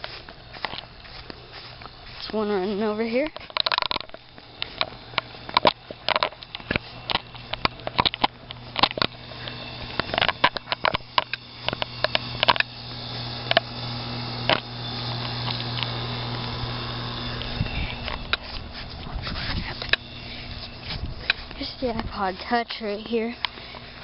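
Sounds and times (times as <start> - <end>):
air conditioner compressor hum: 0.0 - 24.0
sharp clicks and rustles: 0.0 - 24.0.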